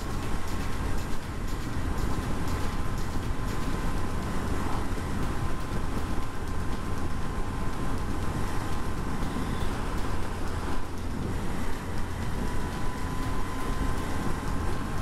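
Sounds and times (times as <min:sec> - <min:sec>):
road noise: 0:00.0 - 0:15.0
wind rush: 0:00.0 - 0:15.0.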